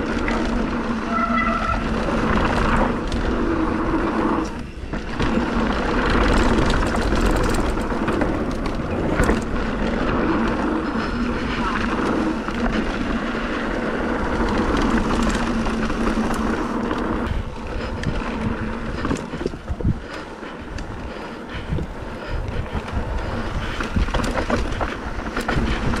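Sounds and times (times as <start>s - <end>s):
bike knocks and rattles: 0.0s - 20.8s, 22.6s - 26.0s
wind rushing over microphone: 0.0s - 26.0s.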